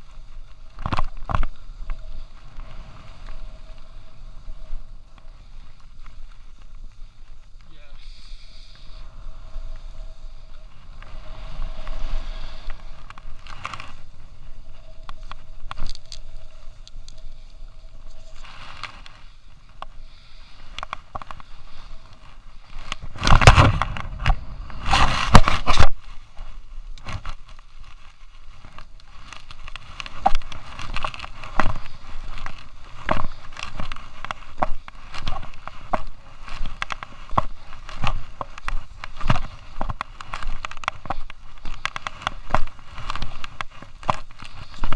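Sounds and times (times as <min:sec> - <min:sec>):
crackles and knocks: 0:00.0 - 0:07.8, 0:08.6 - 0:44.9
skis scraping over snow: 0:00.0 - 0:44.9.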